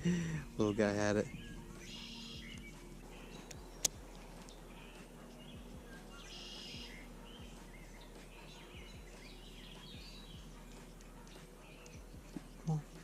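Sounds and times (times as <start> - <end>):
outdoor hiss: 0.0 - 12.8
songbirds singing and chirping: 0.0 - 13.0.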